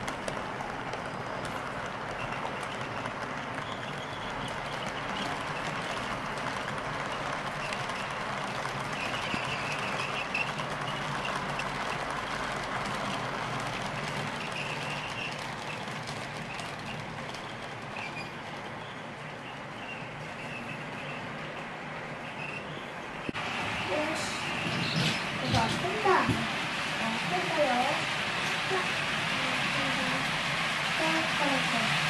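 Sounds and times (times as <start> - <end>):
model train wheels rumbling on rails: 0.0 - 32.0
high wheel squeaks: 0.9 - 28.9.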